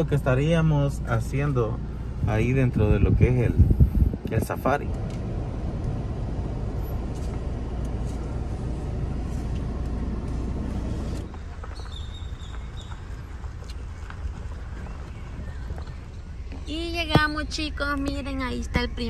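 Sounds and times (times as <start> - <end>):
car interior rumble: 0.0 - 19.0
outdoor ambience: 0.0 - 19.0.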